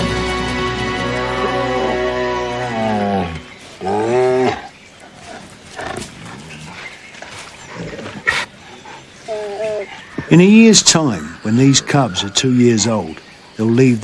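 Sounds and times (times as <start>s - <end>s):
tiger cubs moaning calls: 1.0s - 14.0s.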